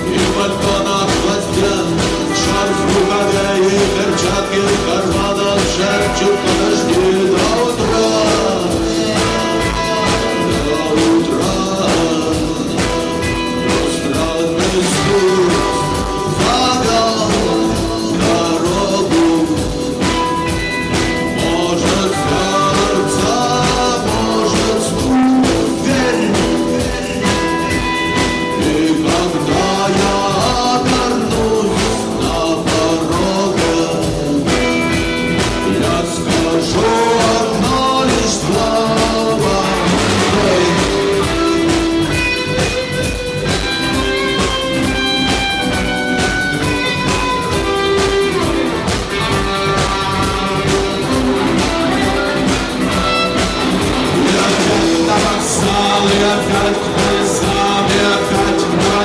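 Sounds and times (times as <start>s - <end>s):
singing over a full band: 0.0s - 59.0s.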